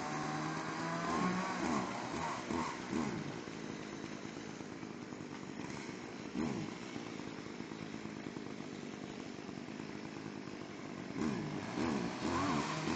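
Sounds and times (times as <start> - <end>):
chainsaw running: 0.0 - 12.9.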